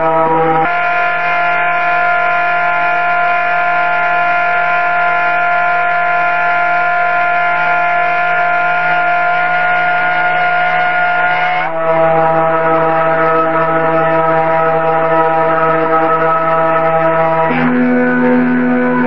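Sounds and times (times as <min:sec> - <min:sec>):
metal cutting noise: 0:00.0 - 0:19.0
milling machine whine: 0:00.0 - 0:19.0.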